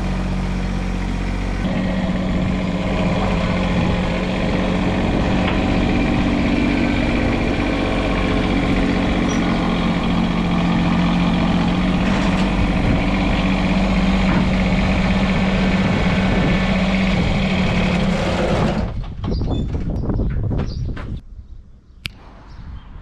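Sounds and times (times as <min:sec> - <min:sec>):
tractor diesel engine running: 0:00.0 - 0:19.2.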